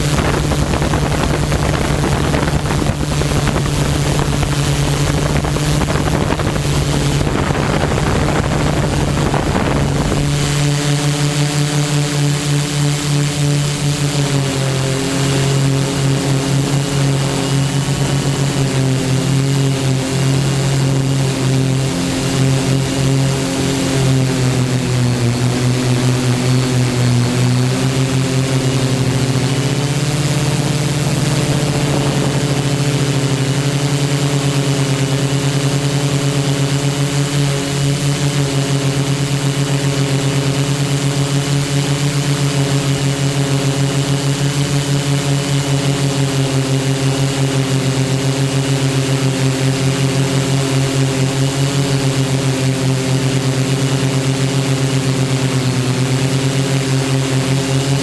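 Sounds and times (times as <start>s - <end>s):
drone motors and propellers humming: 0.0s - 58.0s.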